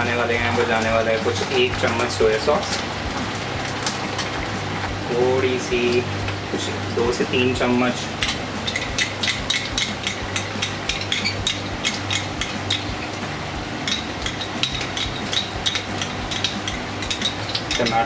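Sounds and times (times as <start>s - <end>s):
oil crackling and popping in pan: 0.0s - 6.8s, 8.0s - 18.0s
steady low hum: 0.0s - 18.0s.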